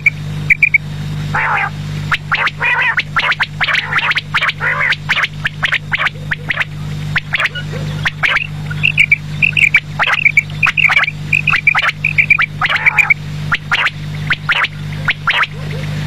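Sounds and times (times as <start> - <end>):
low hum: 0.0 - 16.0
quail calling: 0.0 - 16.0.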